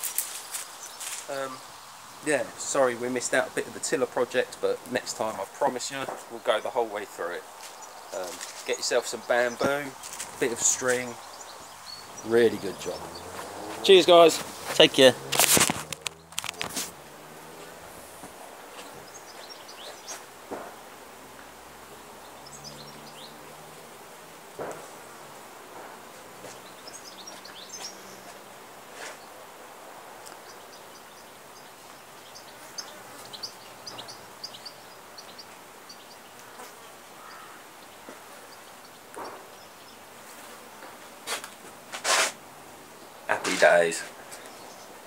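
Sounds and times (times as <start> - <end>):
faint insect buzz: 0.0 - 45.0
small birds chirping: 0.0 - 45.0.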